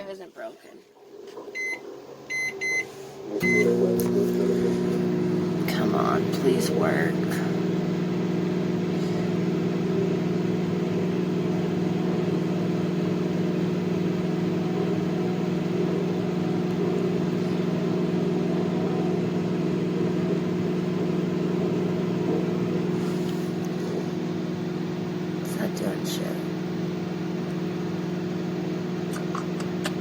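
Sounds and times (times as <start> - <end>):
microwave oven humming: 0.8 - 30.0.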